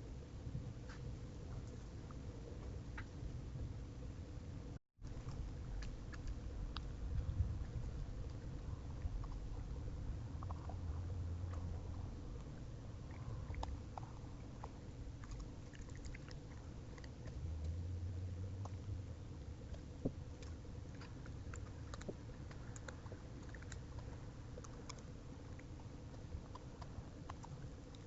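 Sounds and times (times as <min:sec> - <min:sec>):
raccoon chewing birdseed: 0:05.1 - 0:28.0.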